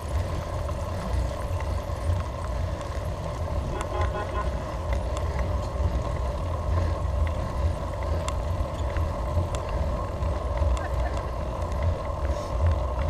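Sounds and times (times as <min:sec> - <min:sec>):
bicycle tyre road noise: 0:00.0 - 0:13.0
wind rumble on microphone: 0:00.0 - 0:13.0
light ticks: 0:00.1 - 0:13.0.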